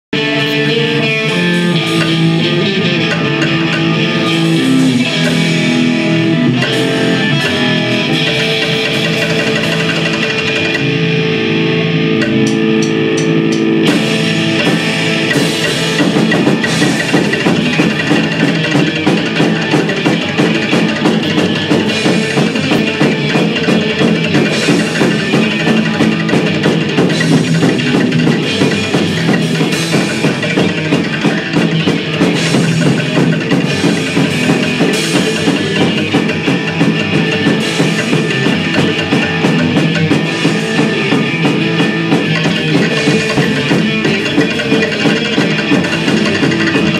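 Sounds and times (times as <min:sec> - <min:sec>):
drum kit beat: 0:00.1 - 0:46.9
electric guitar chords: 0:00.1 - 0:46.9
upright bass: 0:00.1 - 0:46.9.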